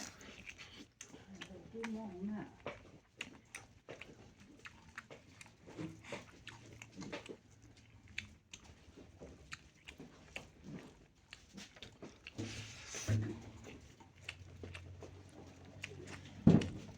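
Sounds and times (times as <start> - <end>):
person chewing and eating: 0.0 - 16.9.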